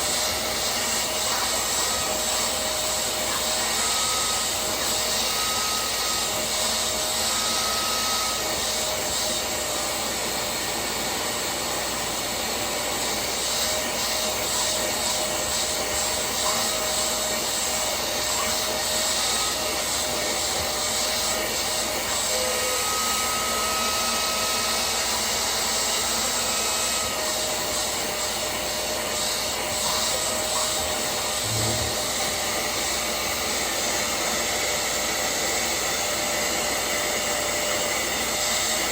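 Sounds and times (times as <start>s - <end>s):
spot cleaner motor running: 0.0s - 38.9s.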